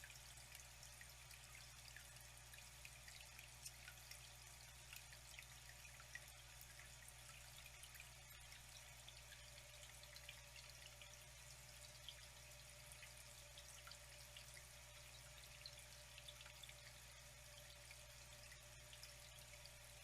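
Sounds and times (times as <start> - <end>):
trickling water: 0.0 - 20.0
water drips and splashes: 0.0 - 20.0.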